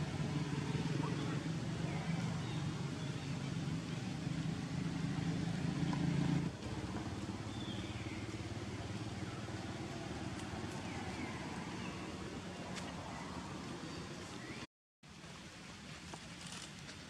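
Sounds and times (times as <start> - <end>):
engine humming: 0.0 - 14.6.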